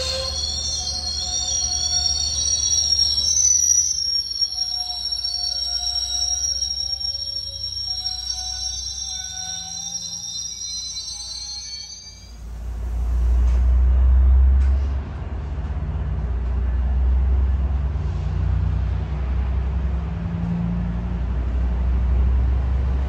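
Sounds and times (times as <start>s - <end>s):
train rolling past rumbling: 0.0s - 23.0s.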